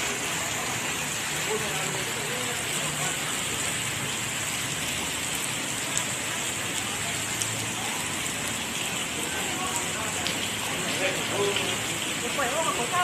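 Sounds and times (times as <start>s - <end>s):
heavy rain hissing: 0.0s - 13.0s
raindrops ticking: 0.0s - 13.0s.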